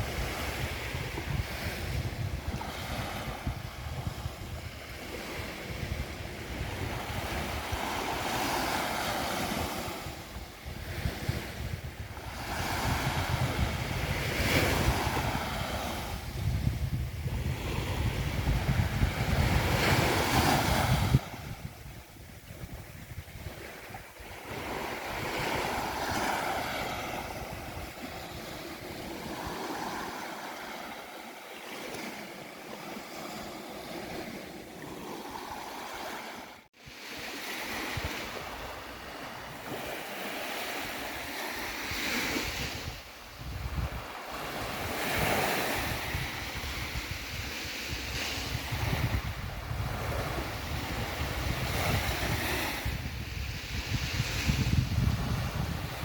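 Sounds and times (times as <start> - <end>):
wind buffeting microphone: 0.0 - 31.0, 36.8 - 56.0
sea waves breaking on beach: 0.0 - 56.0.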